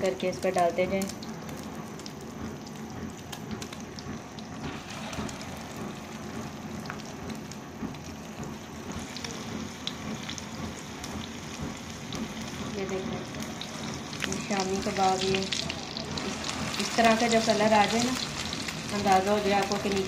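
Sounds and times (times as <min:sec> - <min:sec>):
food frying with sizzle and pops: 0:00.0 - 0:20.0.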